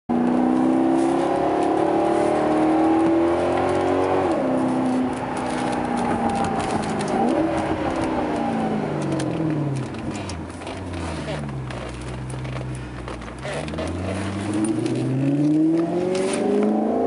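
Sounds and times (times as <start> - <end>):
car engine accelerating: 0.1 - 17.0.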